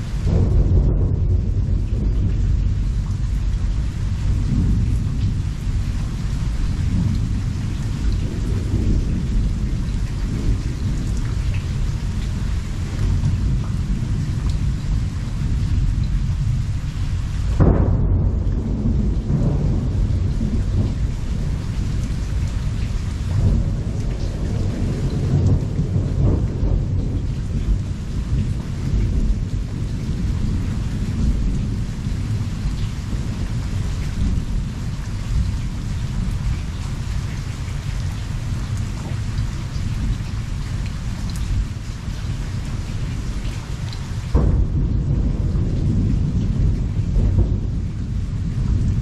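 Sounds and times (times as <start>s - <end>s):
rolling thunder: 0.0s - 49.0s
steady rain: 0.0s - 49.0s.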